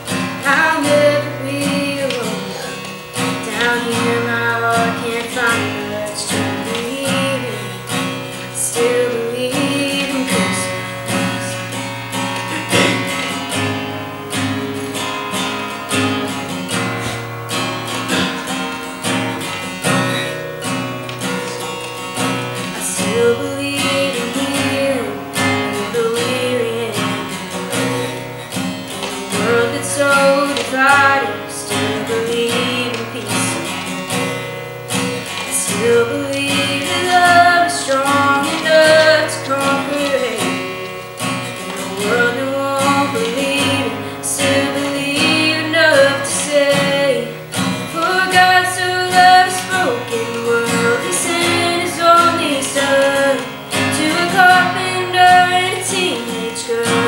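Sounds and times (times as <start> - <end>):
woman singing: 0.0 - 17.0, 21.2 - 28.2, 28.8 - 57.0
acoustic guitar strumming: 0.0 - 57.0.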